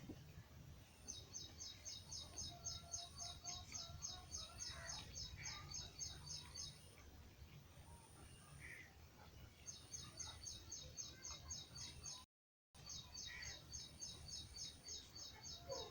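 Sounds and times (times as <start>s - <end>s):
other birds calling softly: 0.0s - 12.2s, 12.8s - 15.9s.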